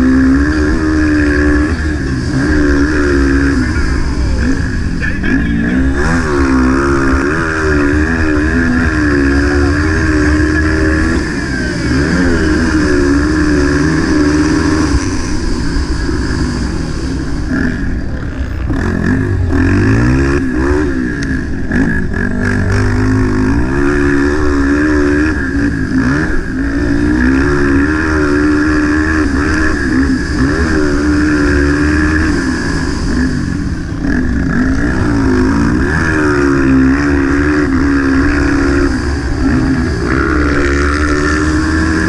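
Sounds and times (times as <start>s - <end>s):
motorcycle engine racing: 0.0s - 42.0s.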